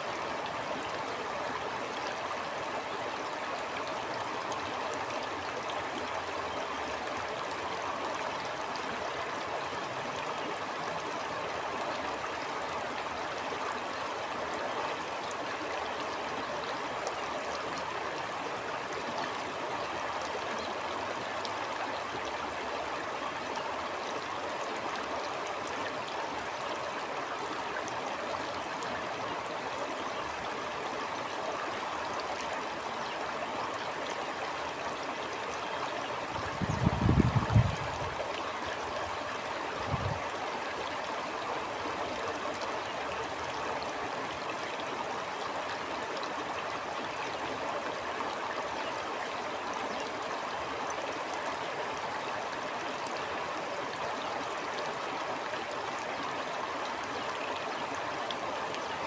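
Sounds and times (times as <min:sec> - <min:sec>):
stream water gurgling: 0:00.0 - 0:59.0.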